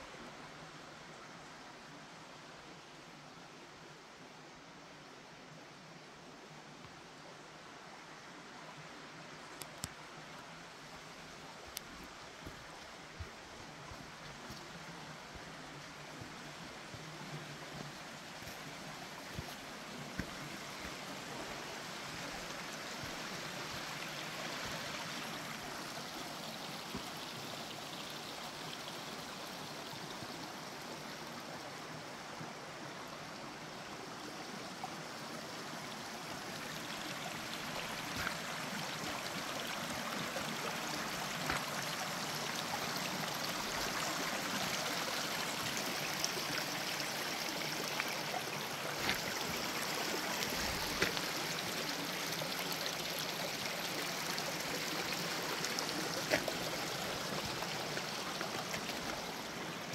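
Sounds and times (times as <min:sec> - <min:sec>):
creek water running: 0:00.0 - 0:59.9.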